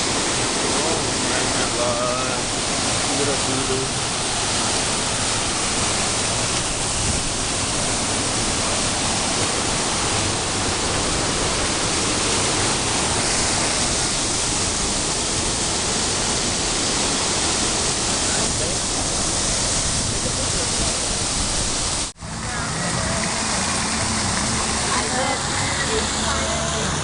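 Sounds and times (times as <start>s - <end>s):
rushing falling water: 0.0s - 27.0s.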